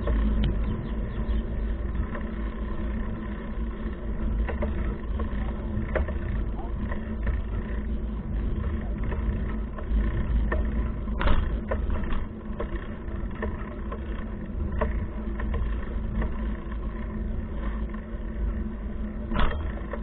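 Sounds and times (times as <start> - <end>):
bicycle rattles and clicks: 0.0 - 20.0
wind buffeting microphone: 0.0 - 20.0.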